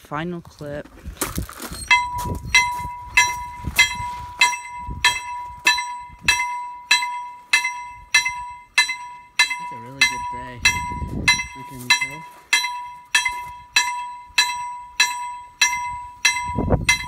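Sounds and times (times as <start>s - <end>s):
bell strikes with ringing tone: 1.8s - 17.0s.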